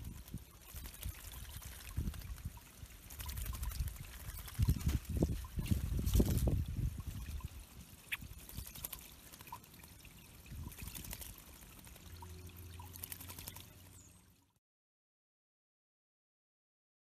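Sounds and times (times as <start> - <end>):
drips and splashes: 0.0 - 14.6
water pouring into pond: 0.0 - 14.6.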